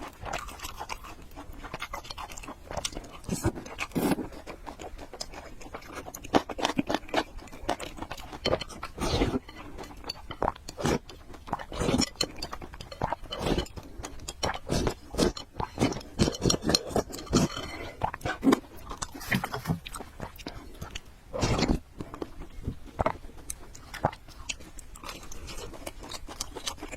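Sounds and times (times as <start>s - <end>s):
person chewing noodles: 0.0s - 26.9s.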